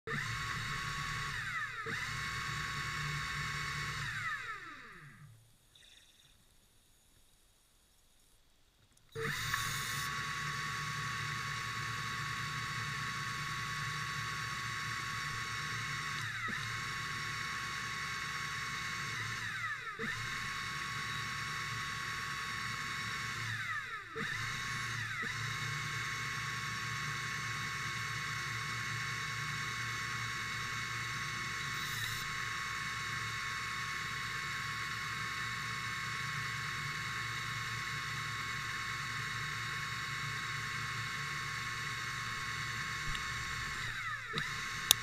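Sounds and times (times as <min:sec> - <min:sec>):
electric motor whining underwater: 0:00.1 - 0:06.4, 0:09.1 - 0:45.0.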